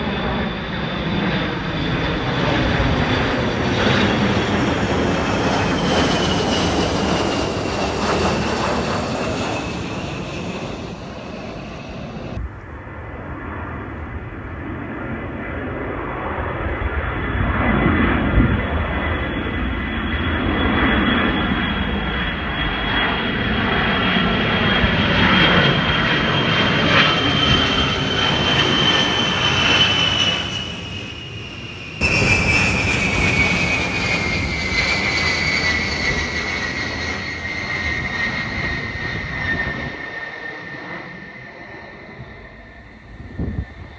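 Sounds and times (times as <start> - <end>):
jet engine roar and whine: 0.0 - 43.9.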